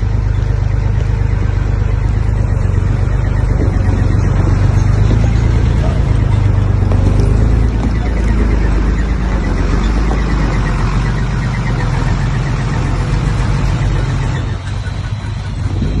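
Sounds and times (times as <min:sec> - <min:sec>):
diesel machinery engine running: 0:00.0 - 0:16.0.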